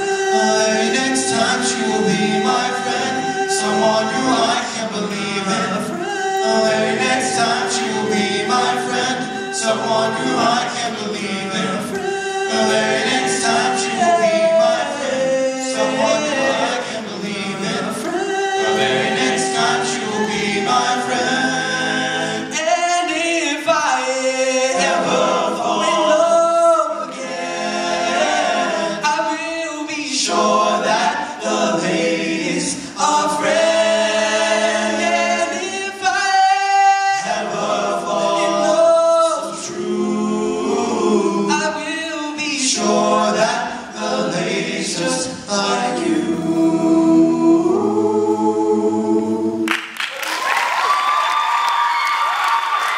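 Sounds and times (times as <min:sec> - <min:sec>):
male a cappella group singing: 0:00.0 - 0:49.7.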